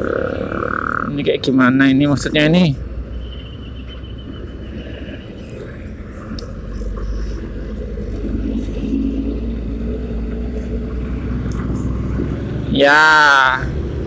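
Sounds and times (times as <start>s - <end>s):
traffic rumble: 0.0s - 14.0s
truck passing: 0.0s - 14.0s
wind: 0.0s - 14.0s.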